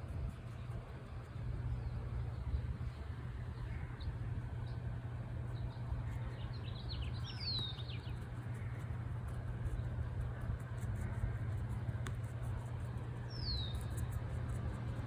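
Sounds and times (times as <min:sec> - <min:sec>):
steady low rumble: 0:00.0 - 0:15.0
songbirds chirping: 0:00.3 - 0:15.0.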